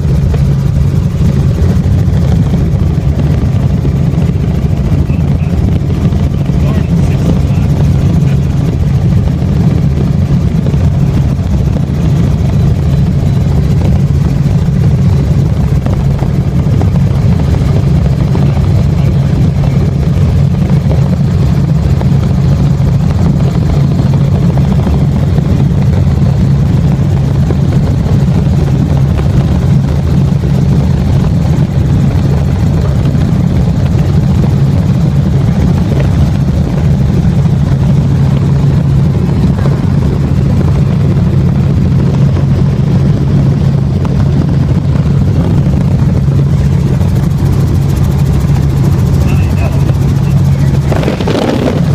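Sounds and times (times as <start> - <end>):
helicopter rotor and engine drone: 0.0 - 51.9.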